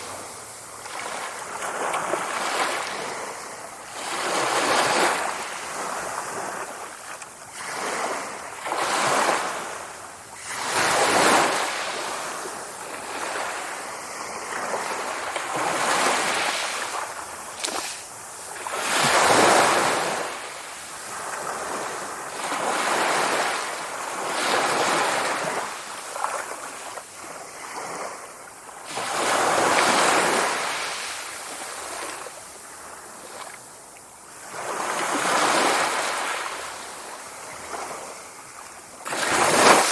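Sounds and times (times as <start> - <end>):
sea waves breaking: 0.0 - 32.3, 34.3 - 39.9.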